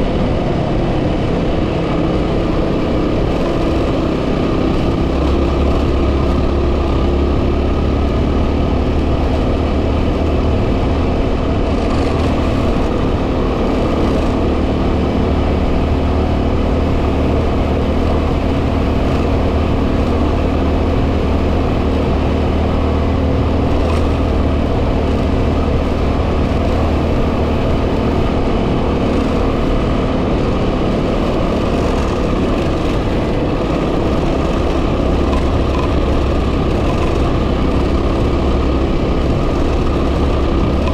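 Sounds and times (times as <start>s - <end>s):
motorcycle engine cruising: 0.0s - 40.9s
wind noise on microphone: 0.0s - 40.9s.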